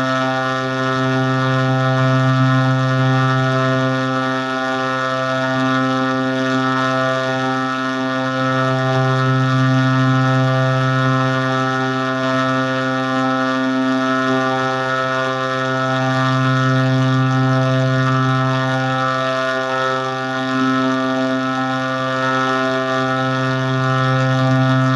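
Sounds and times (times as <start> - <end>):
low droning tone: 0.0 - 24.9.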